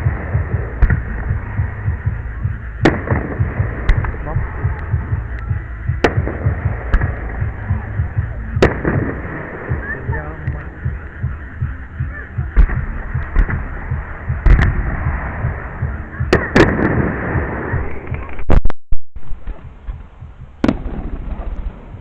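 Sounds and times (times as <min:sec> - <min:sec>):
fireworks booming and banging: 0:00.0 - 0:18.5, 0:19.3 - 0:22.0
fireworks crackling: 0:00.0 - 0:22.0.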